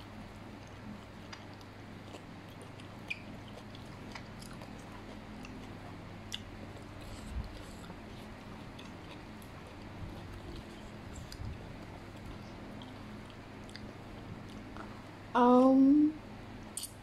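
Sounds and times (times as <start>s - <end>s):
faint low hum: 0.0s - 17.0s
chewing mouth sounds: 0.5s - 15.1s.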